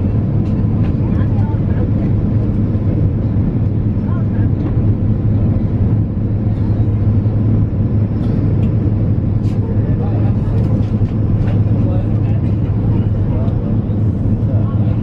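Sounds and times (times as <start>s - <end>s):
jet engines drone: 0.0s - 15.0s.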